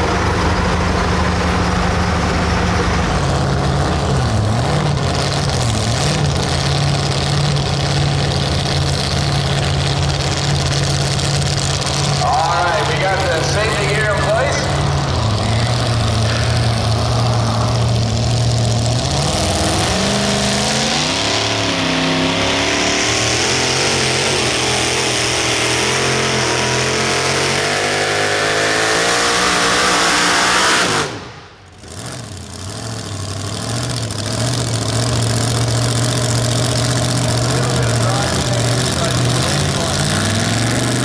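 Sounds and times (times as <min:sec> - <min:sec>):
truck engine idling and revving: 0:00.0 - 0:41.0.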